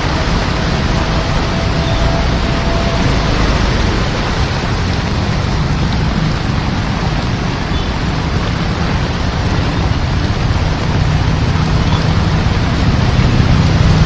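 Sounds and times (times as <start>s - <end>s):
heavy rain hissing: 0.0s - 14.0s
low rumble: 0.0s - 14.0s.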